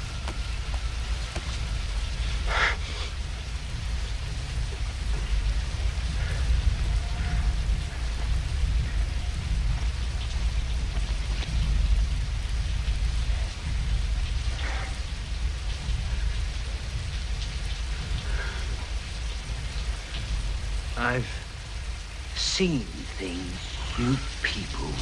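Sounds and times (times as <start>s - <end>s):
deep rumble: 0.0s - 25.0s
rain falling: 0.0s - 25.0s.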